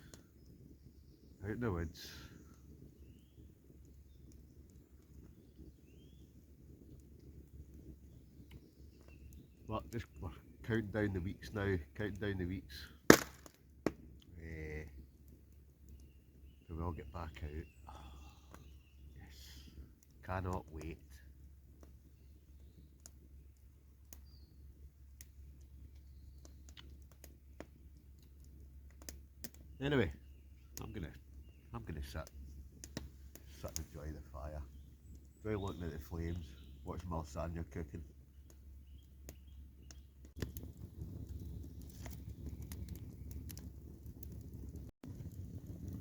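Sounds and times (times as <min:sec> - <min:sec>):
fire pops and snaps: 0:00.0 - 0:46.0
wood fire crackling: 0:00.0 - 0:46.0.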